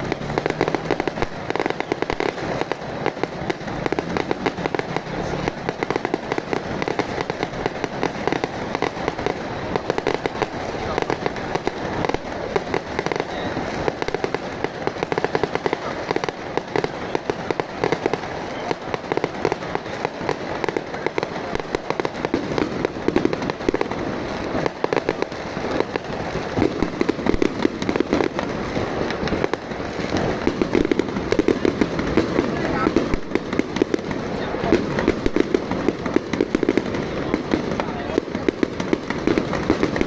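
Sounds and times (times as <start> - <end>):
firecrackers crackling: 0.0 - 40.0
loud firework pops: 0.0 - 40.0.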